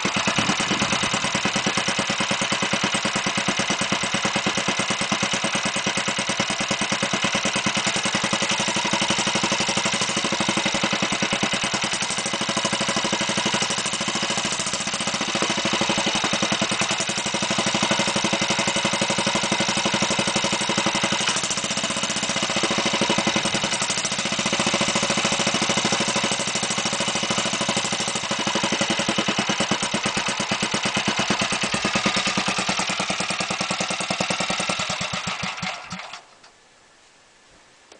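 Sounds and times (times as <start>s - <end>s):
small engine running steadily: 0.0s - 36.3s.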